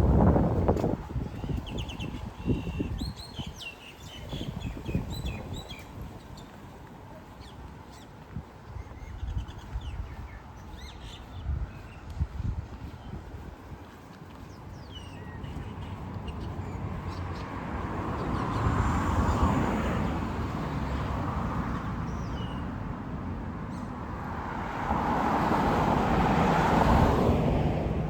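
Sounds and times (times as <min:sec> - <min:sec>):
cars passing: 0:00.0 - 0:28.0.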